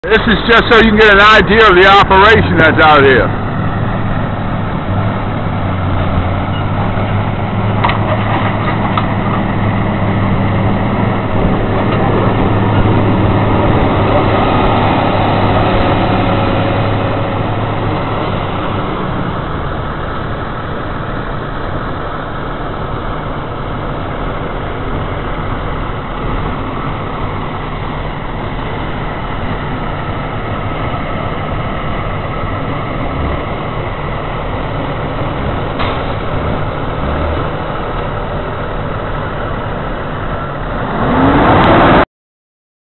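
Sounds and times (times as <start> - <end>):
diesel engines running: 0.0 - 42.0.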